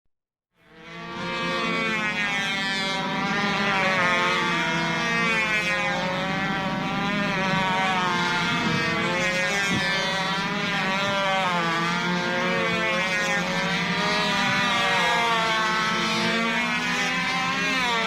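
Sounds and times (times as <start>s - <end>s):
model airplane engines buzzing: 0.6s - 18.0s.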